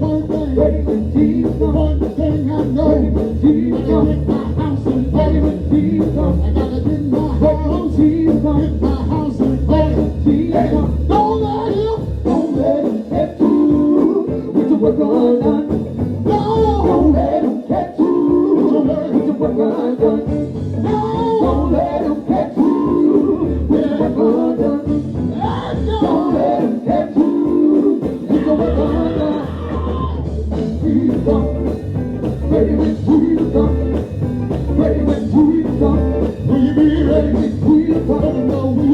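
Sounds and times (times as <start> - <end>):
band playing: 0.0 - 38.9
group singing: 0.0 - 38.9
pulsing bass line: 0.0 - 38.9.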